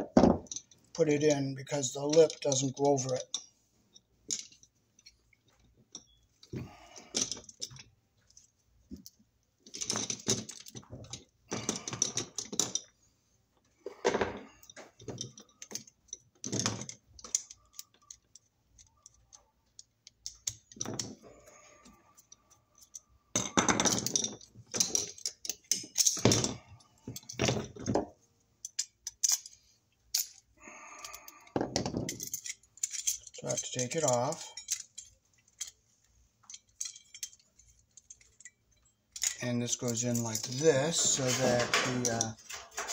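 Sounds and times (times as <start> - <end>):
metallic clinking and rattling: 0.0 - 13.0, 13.6 - 42.9.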